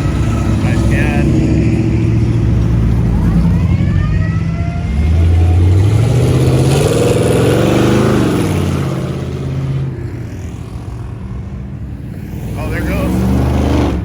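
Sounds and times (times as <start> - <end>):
car engines driving past: 0.0 - 14.0
engine revving: 0.0 - 14.0.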